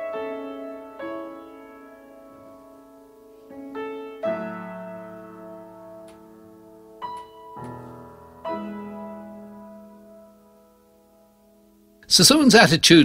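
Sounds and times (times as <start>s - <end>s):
solo piano chords: 0.0s - 12.0s.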